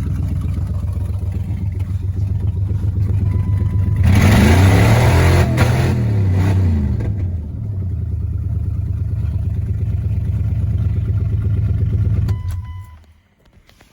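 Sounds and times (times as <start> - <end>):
engine idling loudly: 0.0 - 12.4.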